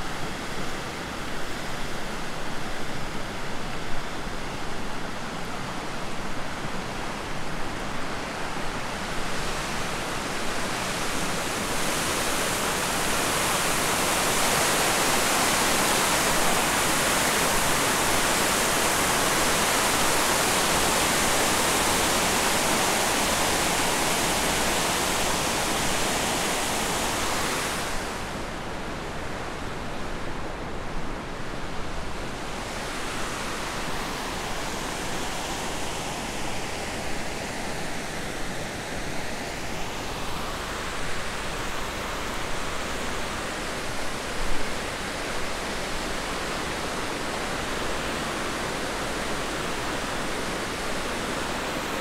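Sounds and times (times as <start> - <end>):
river water rushing over cascade: 0.0 - 52.0.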